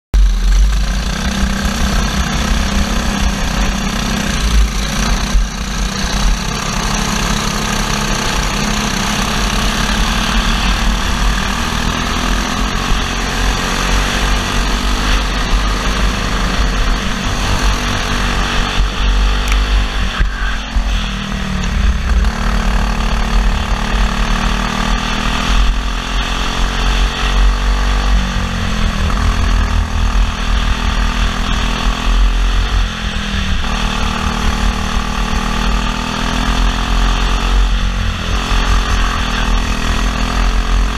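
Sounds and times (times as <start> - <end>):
kart engine revving: 0.2 - 40.9.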